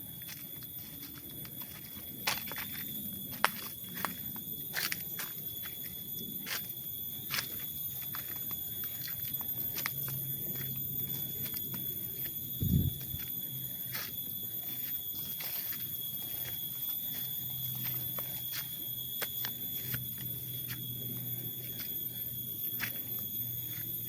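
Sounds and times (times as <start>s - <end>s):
footsteps on trail: 0.0s - 24.0s
high-pitched insect chorus: 0.0s - 24.0s.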